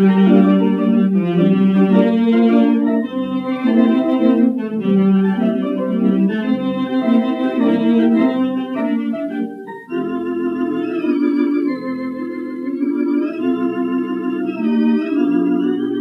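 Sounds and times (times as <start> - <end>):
theatre organ chords with tremolo: 0.0 - 16.0.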